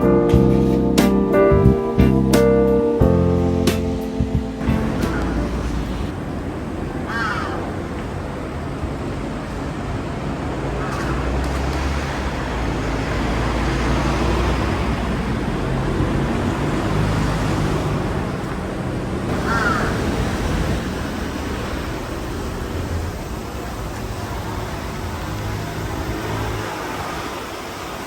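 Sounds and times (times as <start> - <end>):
rumble of passing vehicles: 0.0 - 28.0.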